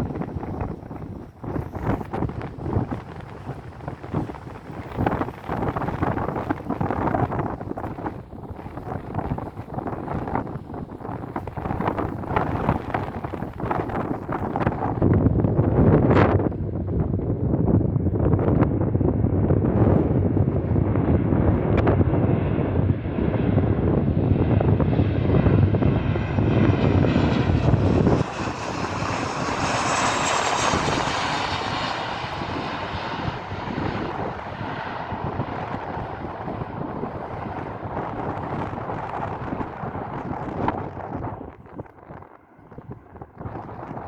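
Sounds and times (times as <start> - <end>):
jet engines roaring past: 0.0 - 44.0
wind rumble on microphone: 0.0 - 44.0.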